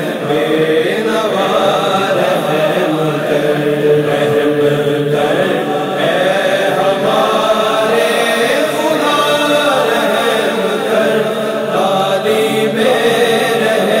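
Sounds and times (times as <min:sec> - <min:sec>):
chorus chanting wordlessly: 0:00.0 - 0:14.0.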